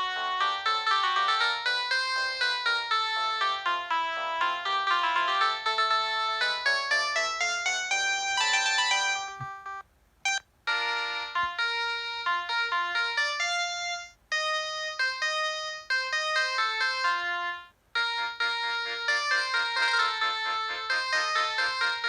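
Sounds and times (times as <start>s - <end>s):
mobile phone ringtone melodies: 0.0s - 22.0s.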